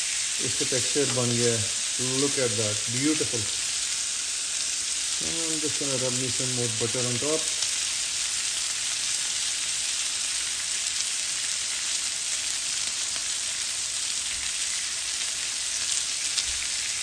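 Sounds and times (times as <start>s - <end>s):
steaks sizzling in a grill pan: 0.0s - 17.0s.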